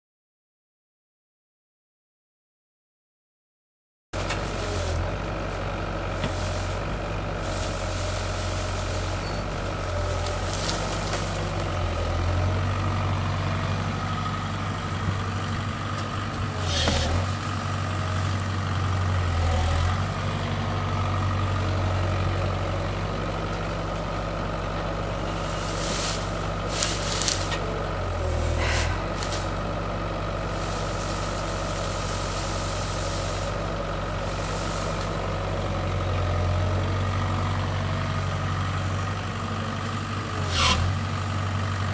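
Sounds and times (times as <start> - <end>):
excavator diesel engine running: 4.2 - 41.9.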